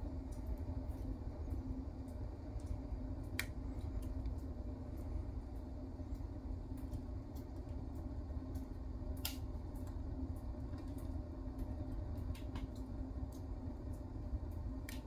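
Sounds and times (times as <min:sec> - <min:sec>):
fire crackles: 0:00.0 - 0:15.0
wood fire rumbling in stove: 0:00.0 - 0:15.0.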